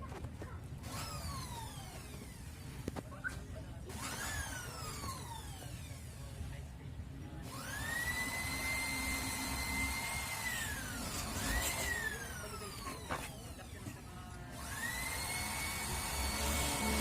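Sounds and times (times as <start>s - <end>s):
power tool motor whining: 0.8s - 3.2s, 3.8s - 6.4s, 7.4s - 17.0s.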